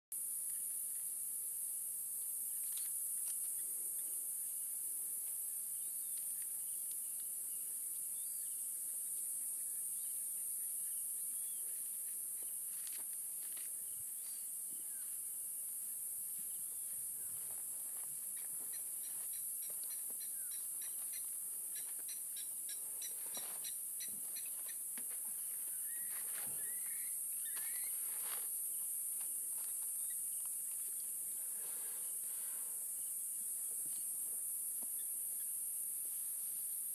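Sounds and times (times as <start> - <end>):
crickets chorus: 0.2 - 36.9.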